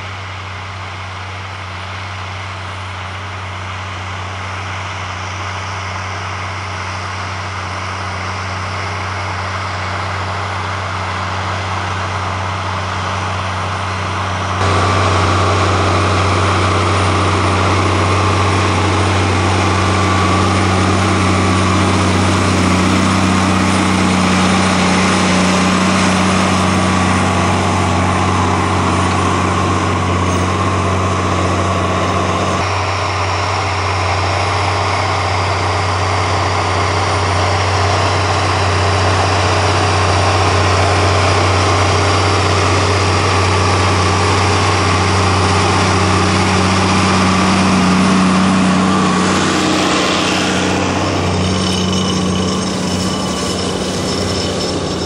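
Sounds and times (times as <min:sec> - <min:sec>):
tractor diesel engine: 0:00.0 - 0:55.0.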